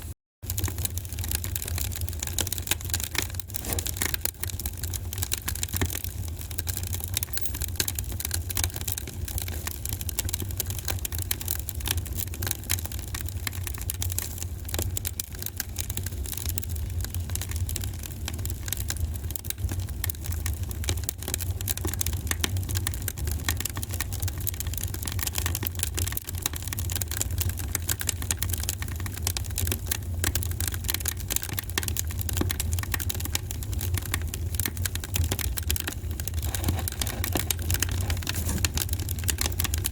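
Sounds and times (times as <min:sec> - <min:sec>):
wood fire crackling: 0:00.4 - 0:39.9.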